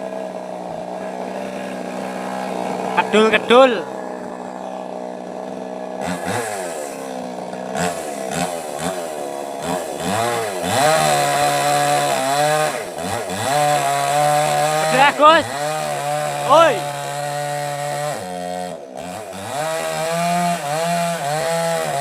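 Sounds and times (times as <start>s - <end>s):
chainsaw idling and revving: 0.0s - 22.0s.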